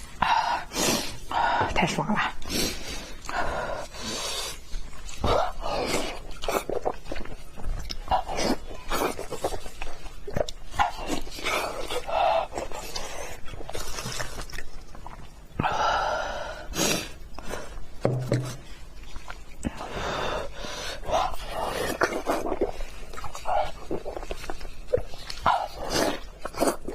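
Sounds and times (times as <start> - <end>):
chewing and smacking: 2.4 - 15.6, 17.2 - 19.9, 21.0 - 26.9.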